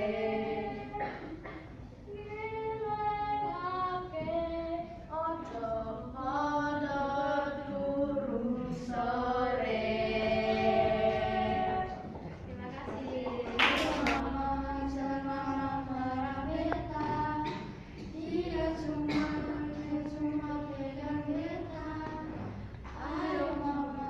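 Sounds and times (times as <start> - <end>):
children singing in unison: 0.0 - 12.1, 13.0 - 24.0.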